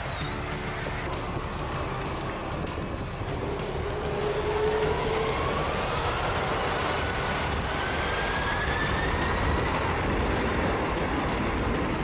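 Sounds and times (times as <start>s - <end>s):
jet engines spooling up: 0.0s - 12.0s.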